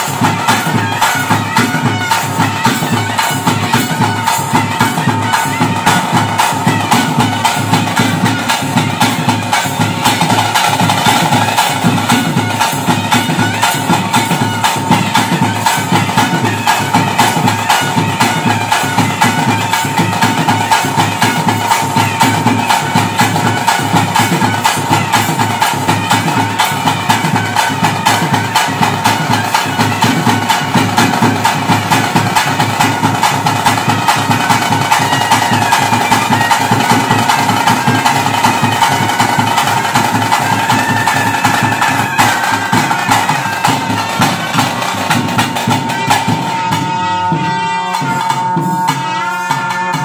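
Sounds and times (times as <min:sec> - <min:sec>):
double-reed pipe melody: 0:00.0 - 0:50.0
fast drum beats: 0:00.0 - 0:50.0.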